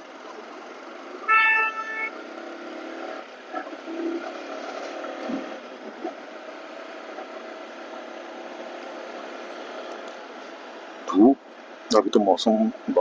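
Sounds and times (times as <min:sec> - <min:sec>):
motorcycle engine hum: 0:00.0 - 0:13.0.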